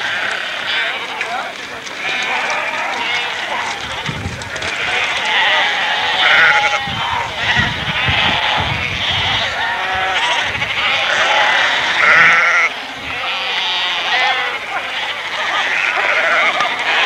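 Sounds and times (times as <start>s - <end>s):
flock of sheep bleating: 0.0s - 17.0s.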